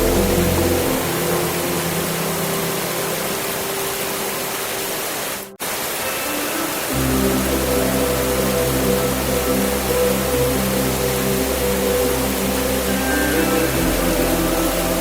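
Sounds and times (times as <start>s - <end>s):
deep music tones: 0.0s - 4.8s, 6.8s - 15.0s
heavy rain: 0.0s - 15.0s
soft sustained music tones: 0.0s - 15.0s.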